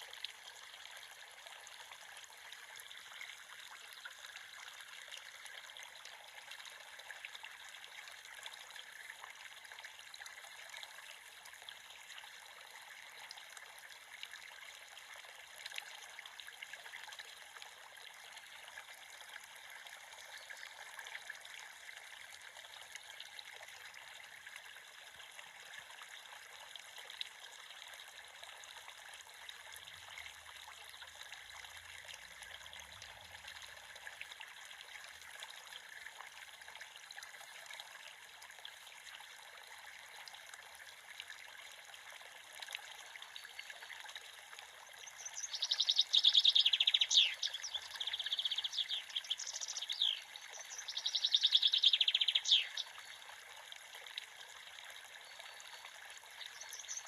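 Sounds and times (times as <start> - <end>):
creek water trickling: 0.0 - 57.0.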